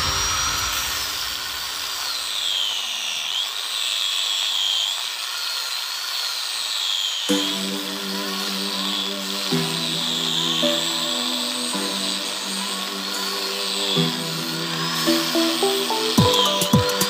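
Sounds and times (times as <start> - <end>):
angle grinder grinding wood: 0.0 - 17.0.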